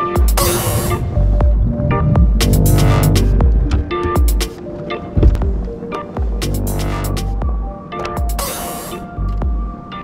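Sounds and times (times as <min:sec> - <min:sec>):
background music with bass and drums: 0:00.0 - 0:10.0.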